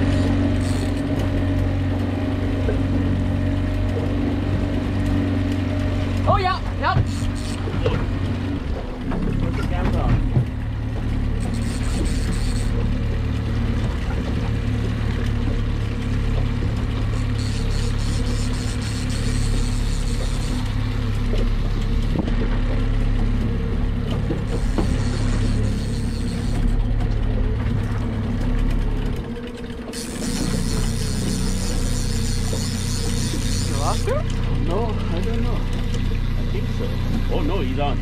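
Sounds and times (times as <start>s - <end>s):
boat motor humming: 0.0s - 38.0s.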